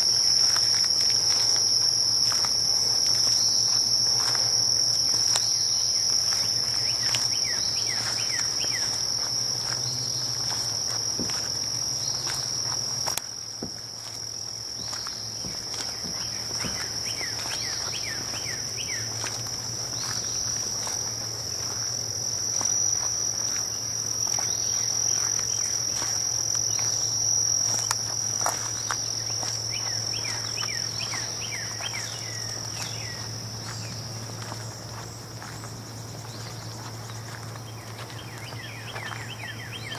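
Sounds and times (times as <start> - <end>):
insects trilling drone: 0.0 - 39.9.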